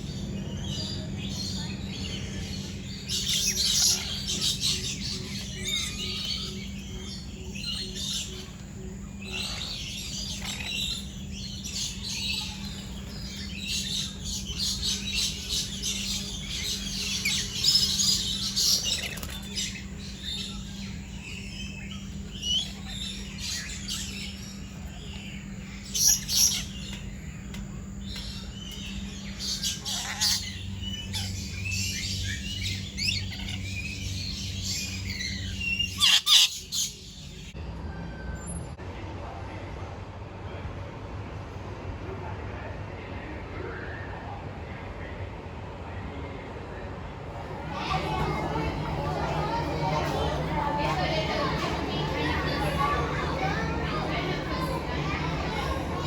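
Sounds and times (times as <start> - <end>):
birds chirping and calling: 0.0 - 37.6, 47.3 - 56.0
steady low hum: 0.0 - 56.0.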